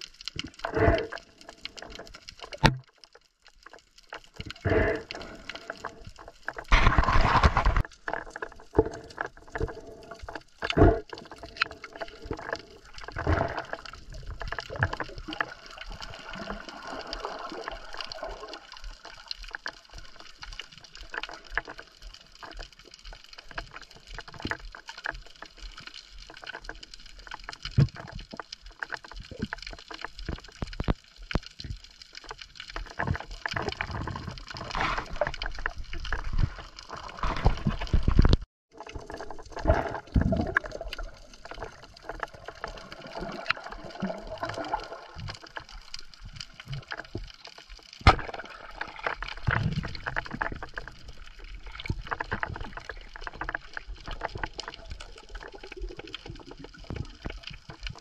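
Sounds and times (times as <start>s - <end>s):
muffled underwater water wash: 0.0s - 58.0s.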